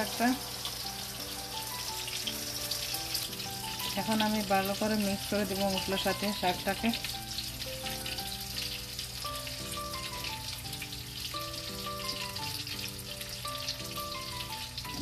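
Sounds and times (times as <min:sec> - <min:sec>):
background music melody: 0:00.0 - 0:15.0
food frying in hot oil: 0:00.0 - 0:15.0.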